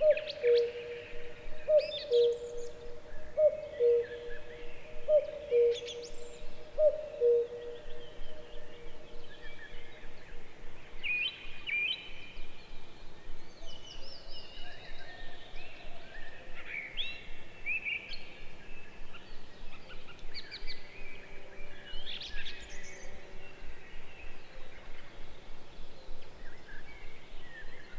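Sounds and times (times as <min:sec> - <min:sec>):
outdoor background hiss: 0:00.0 - 0:27.9
songbirds chirping: 0:00.0 - 0:27.9.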